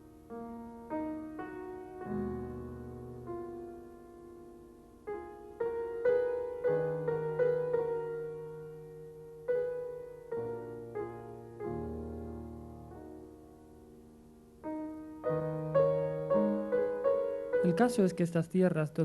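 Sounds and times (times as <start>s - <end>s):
slow soft piano music: 0.0s - 19.0s.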